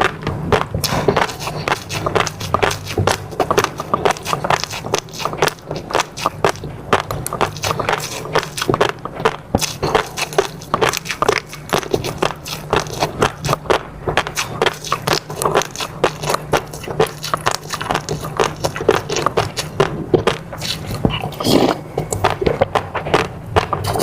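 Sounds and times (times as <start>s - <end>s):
close chewing with mouth smacks: 0.0s - 24.0s
faint low hum: 0.0s - 24.0s.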